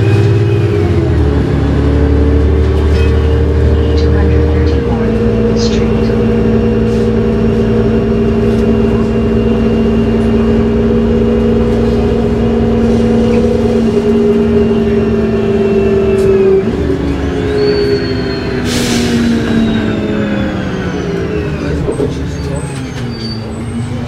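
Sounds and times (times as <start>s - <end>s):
bus engine whine: 0.0s - 24.0s.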